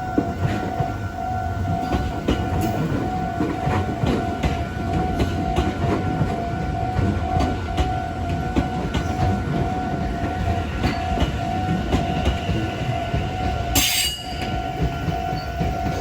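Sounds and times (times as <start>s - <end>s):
crossing warning bell: 0.0s - 16.0s
train rumble: 0.0s - 16.0s.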